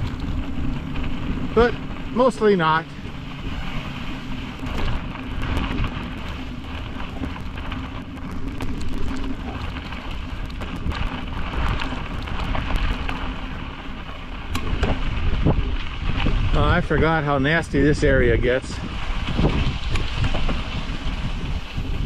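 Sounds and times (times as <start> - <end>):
wind on camera: 0.0 - 2.2, 3.0 - 22.0
bicycle tyres on gravel: 0.0 - 22.0
bike rattles and clicks: 0.0 - 22.0.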